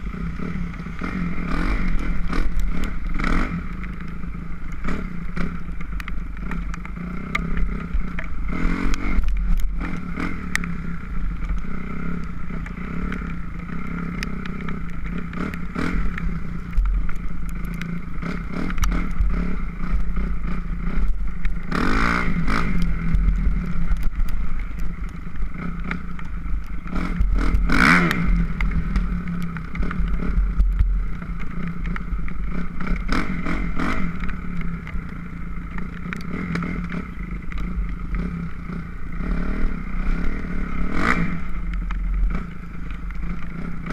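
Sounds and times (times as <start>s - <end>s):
dirt bike engine revving: 0.0s - 16.8s, 17.5s - 24.1s, 25.5s - 43.9s.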